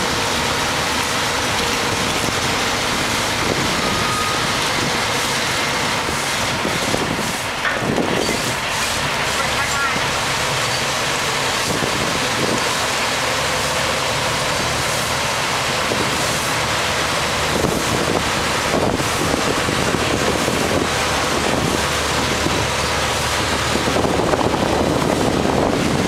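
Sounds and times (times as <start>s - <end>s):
wind buffeting microphone: 0.0s - 9.1s, 11.3s - 12.9s, 15.4s - 26.0s
boat engine running: 0.0s - 26.0s.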